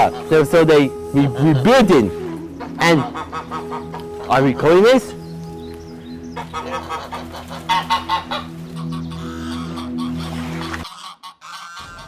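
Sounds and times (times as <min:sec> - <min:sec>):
background music chord: 0:00.0 - 0:10.9
geese honking: 0:00.0 - 0:12.0.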